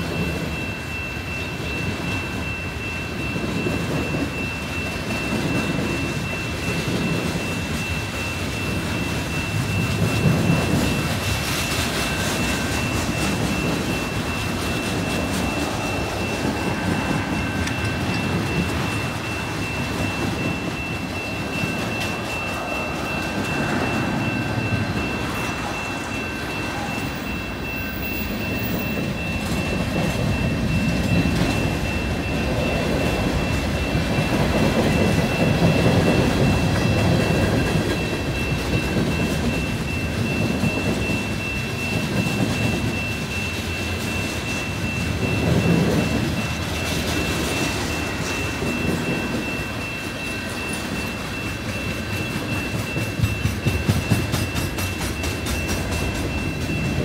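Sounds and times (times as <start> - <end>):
thin steady high tone: 0.0 - 57.0
train wheels rumbling on rail: 0.0 - 57.0.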